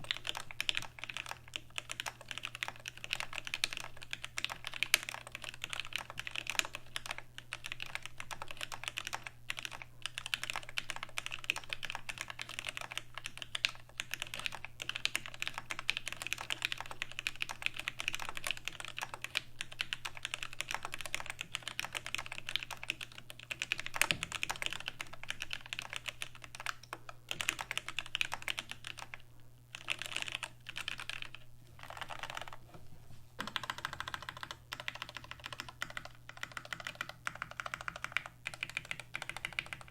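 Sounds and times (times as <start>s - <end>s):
mechanical keyboard typing: 0.0s - 32.6s, 33.4s - 39.9s.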